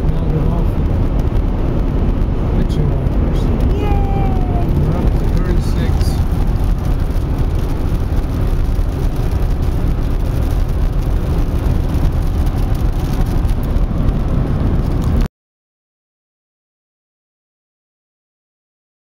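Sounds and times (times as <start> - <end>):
car engine and road noise: 0.0 - 15.3.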